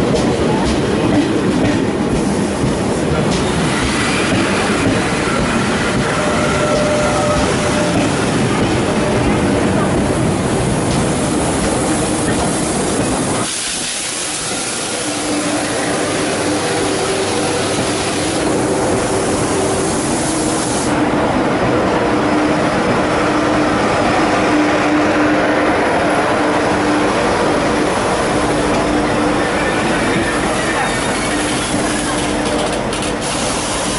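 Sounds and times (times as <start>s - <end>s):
train coaches rolling slowly: 0.0s - 33.9s
train hum with hiss: 0.0s - 33.9s.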